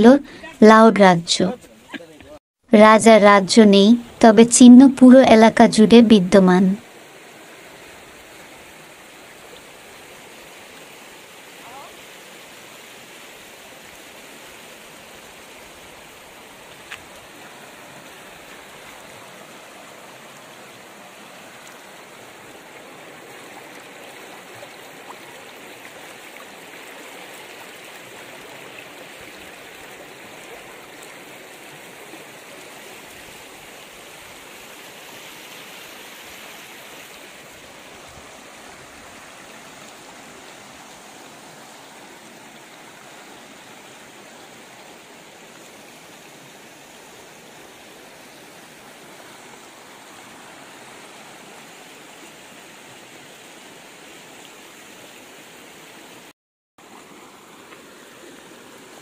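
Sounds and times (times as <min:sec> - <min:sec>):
stream rushing over stones: 0:06.4 - 0:59.0.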